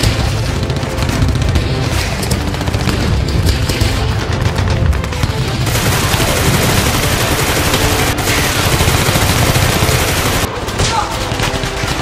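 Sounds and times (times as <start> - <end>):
rapid automatic gunfire: 0.0 - 12.0.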